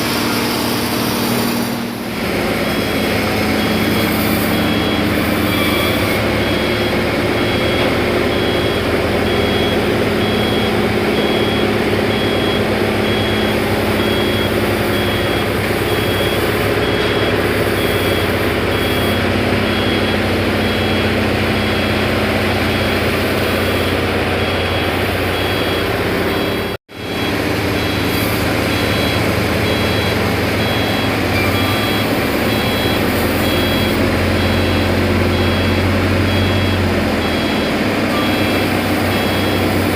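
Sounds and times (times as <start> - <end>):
forklift engine running: 0.0 - 39.9
reversing alarm beeping: 0.0 - 39.9.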